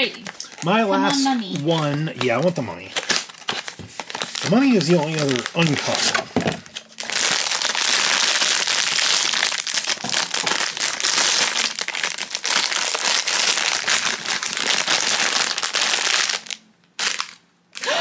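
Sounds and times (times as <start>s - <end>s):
foil bag crinkling: 0.0s - 18.0s.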